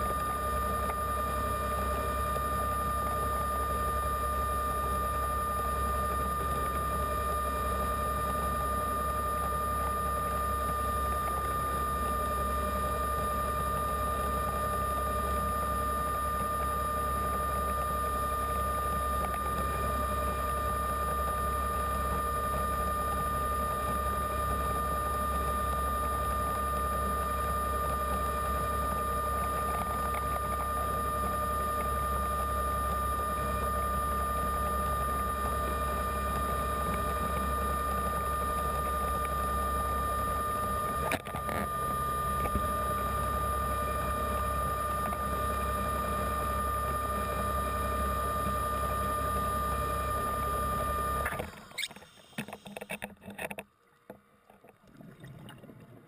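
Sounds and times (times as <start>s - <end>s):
underwater scooter motor whine: 0.0s - 56.0s.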